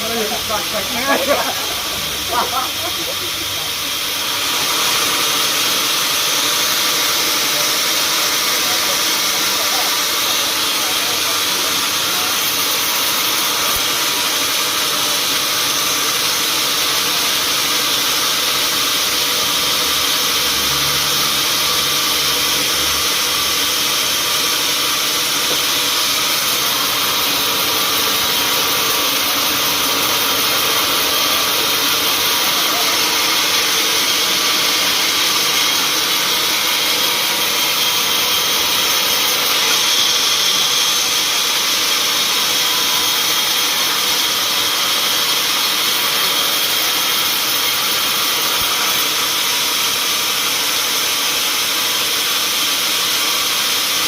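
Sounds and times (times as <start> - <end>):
sawmill machinery hissing: 0.0 - 54.0.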